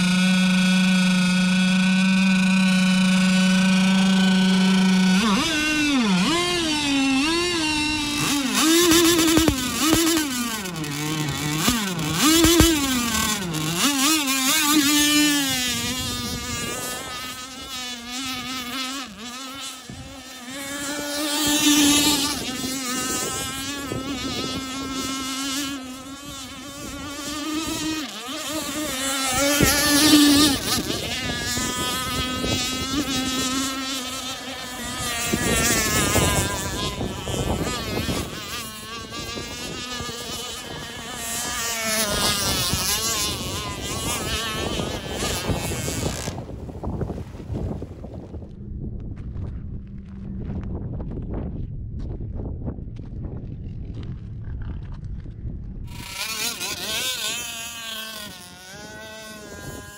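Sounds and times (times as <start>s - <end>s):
model boat engine whine: 0.0s - 49.0s, 53.7s - 59.9s.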